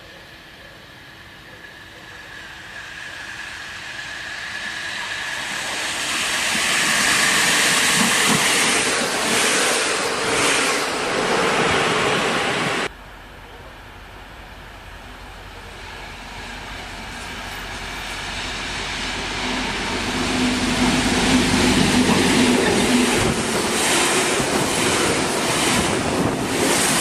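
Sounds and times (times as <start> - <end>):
passenger train approaching: 0.0 - 27.0.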